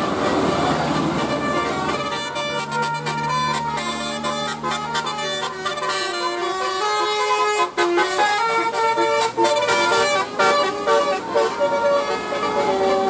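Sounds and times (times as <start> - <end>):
musical air horn playing a tune: 0.0 - 13.0.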